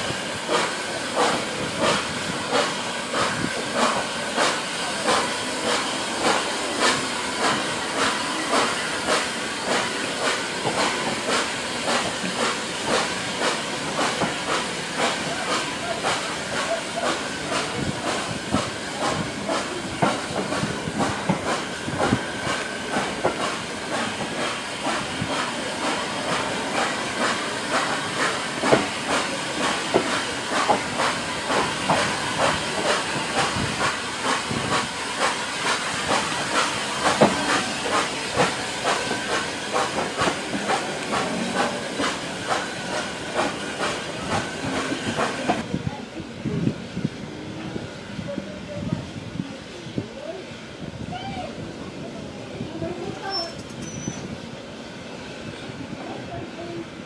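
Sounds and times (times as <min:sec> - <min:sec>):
train knocking and clanking: 0:00.0 - 0:51.0, 0:51.7 - 0:56.8
steam hissing: 0:00.0 - 0:57.0.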